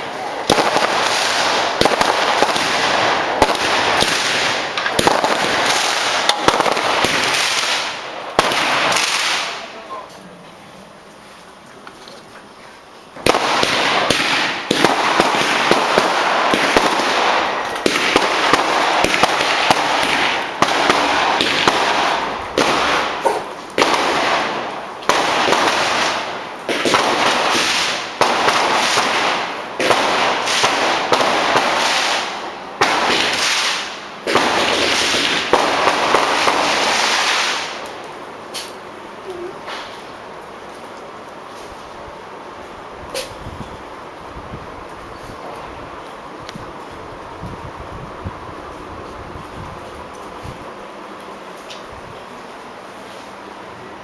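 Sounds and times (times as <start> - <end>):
fireworks crackling bangs: 0.0 - 54.0.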